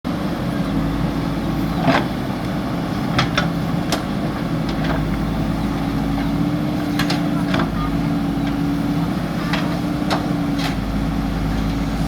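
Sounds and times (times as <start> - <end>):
diesel engine running: 0.1 - 12.0.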